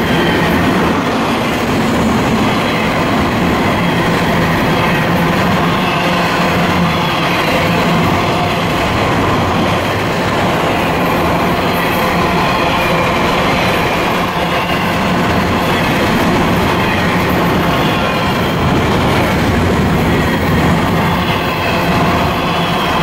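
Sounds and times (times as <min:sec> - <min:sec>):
steel train wheels on rails: 0:00.0 - 0:23.0.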